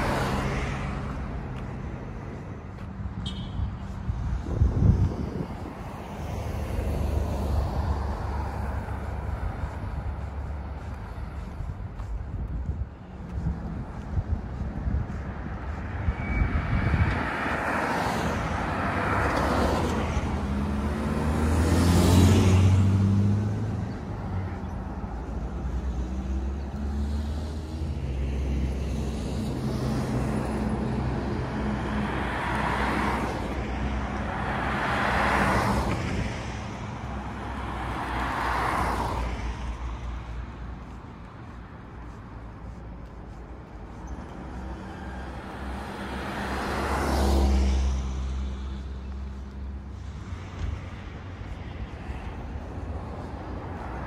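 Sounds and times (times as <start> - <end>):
cars passing with tyre noise: 0.0 - 54.0.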